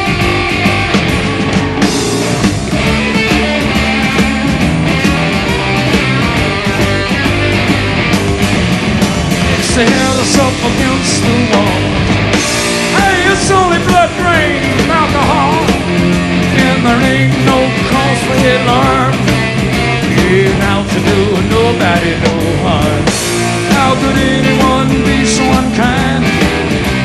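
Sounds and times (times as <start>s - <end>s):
bass guitar: 0.0s - 27.0s
drums: 0.0s - 27.0s.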